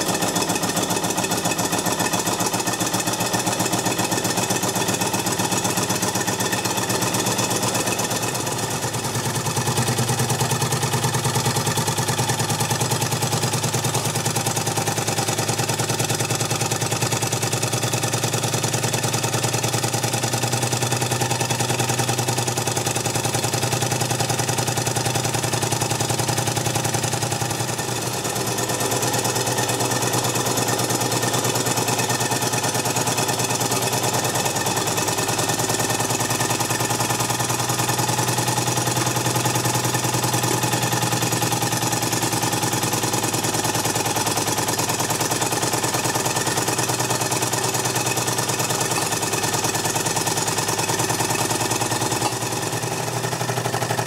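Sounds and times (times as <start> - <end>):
steam engine model beat: 0.0 - 54.0.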